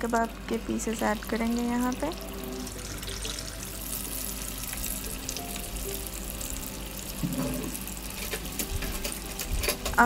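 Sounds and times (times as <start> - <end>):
food sizzling in oil: 0.0 - 10.0
oil popping and crackling: 0.0 - 10.0.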